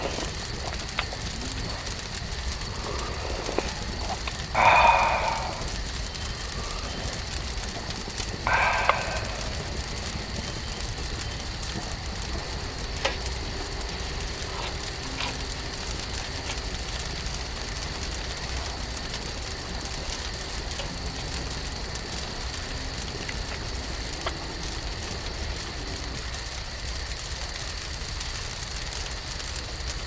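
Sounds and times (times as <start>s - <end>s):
cooking fire sizzling hiss: 0.0s - 30.0s
fire crackles: 0.0s - 30.0s.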